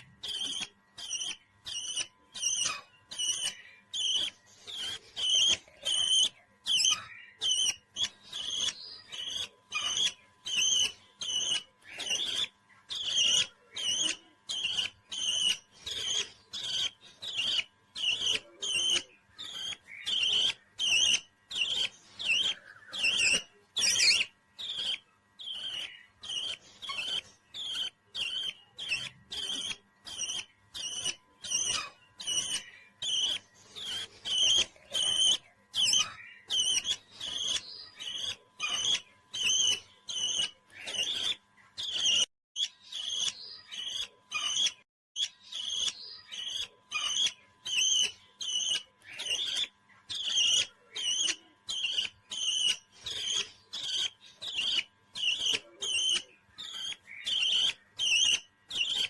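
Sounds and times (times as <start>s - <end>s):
parrot chirping: 0.0s - 59.0s.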